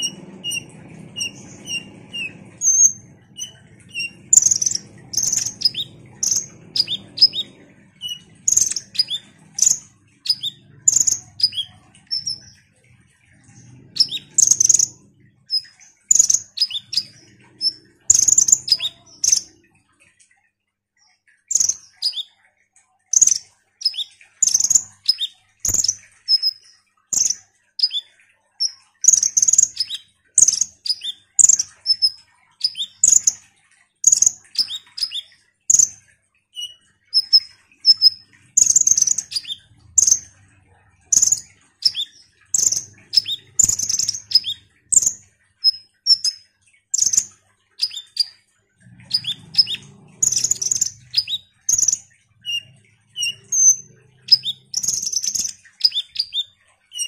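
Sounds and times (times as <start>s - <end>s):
bird chirping: 0.0s - 20.0s, 21.0s - 22.4s, 23.1s - 57.0s.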